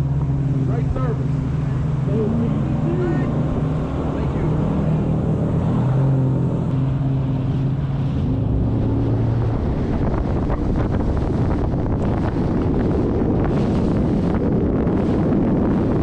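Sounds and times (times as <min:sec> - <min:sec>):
outboard motor running: 0:00.0 - 0:16.0
water rushing along hull: 0:00.0 - 0:16.0
wind buffeting microphone: 0:00.0 - 0:16.0.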